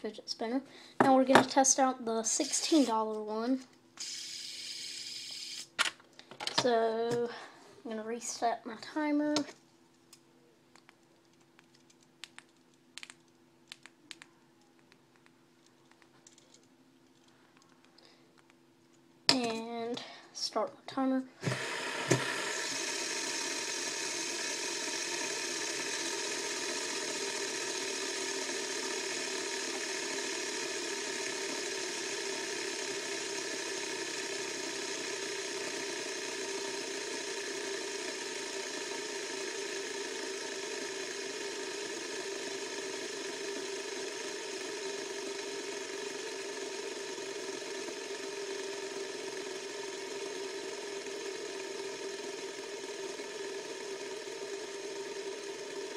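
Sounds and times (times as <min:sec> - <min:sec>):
fidget spinner whirring: 0:01.0 - 0:05.7, 0:09.2 - 0:18.6, 0:21.4 - 0:55.9.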